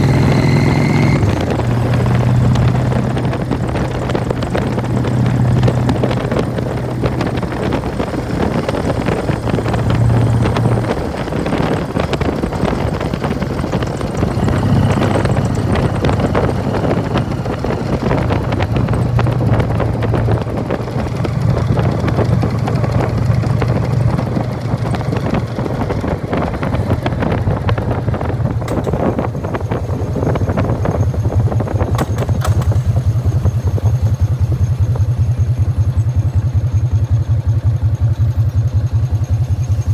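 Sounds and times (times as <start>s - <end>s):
motorcycle engine riding: 0.0s - 39.9s
primary drive rattling: 1.2s - 35.0s.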